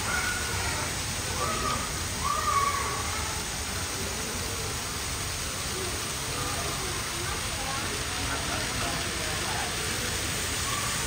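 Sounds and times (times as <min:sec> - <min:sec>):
busy shop hubbub: 0:00.0 - 0:11.0
faint distant voices: 0:00.0 - 0:11.0.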